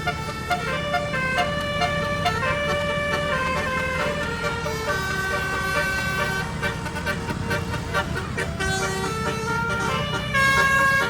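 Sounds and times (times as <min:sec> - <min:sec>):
bus engine running: 0:00.0 - 0:11.0
bus horn playing a melody: 0:00.0 - 0:11.0.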